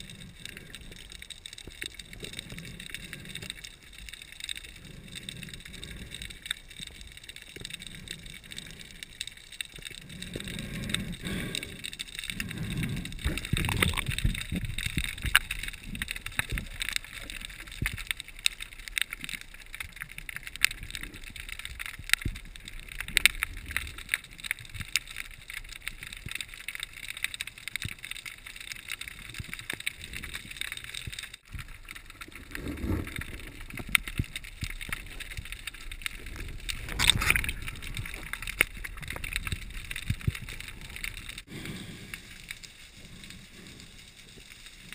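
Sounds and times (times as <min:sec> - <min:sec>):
underwater crackle of clicks: 0:00.0 - 0:44.9.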